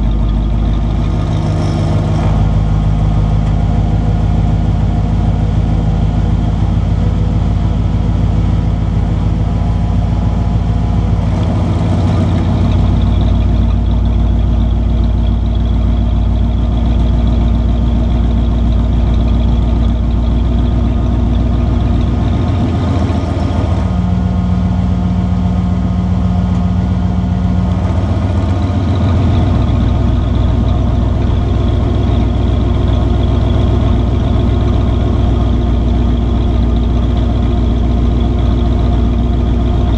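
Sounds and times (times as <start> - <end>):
engine idling rumble: 0.0 - 39.9.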